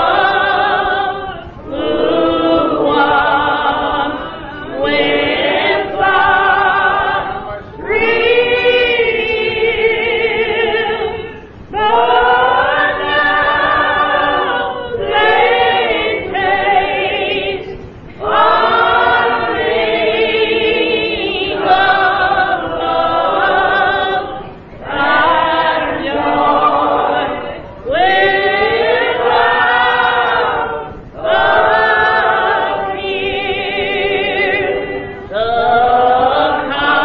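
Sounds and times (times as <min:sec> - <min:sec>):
church choir singing: 0:00.0 - 0:37.0.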